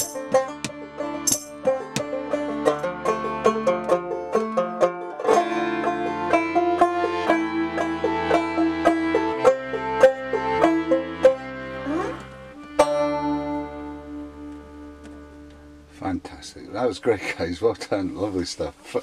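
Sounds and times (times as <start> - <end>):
accordion: 0.0 - 15.9
plucked banjo: 0.0 - 16.4.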